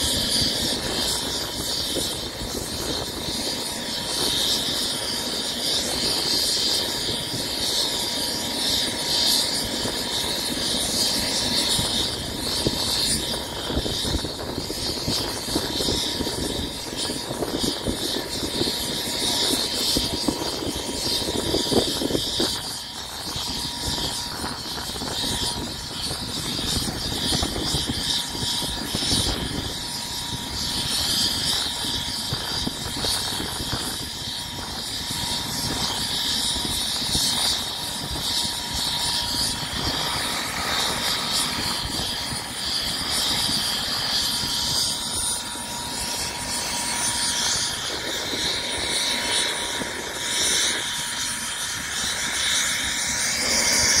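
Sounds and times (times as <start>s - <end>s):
high-pitched whine: 0.0s - 54.0s
light aircraft engine idling: 0.0s - 54.0s.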